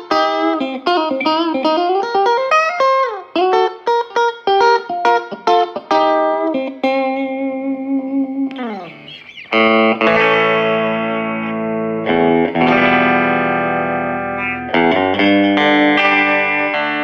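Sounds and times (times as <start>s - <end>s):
electric guitar strumming chords: 0.0s - 17.0s.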